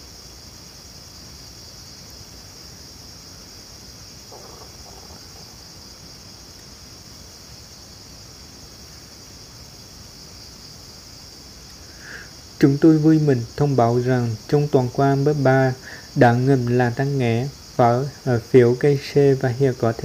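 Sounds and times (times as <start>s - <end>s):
crickets chirping: 0.0s - 20.0s
faint background hiss: 0.0s - 20.0s.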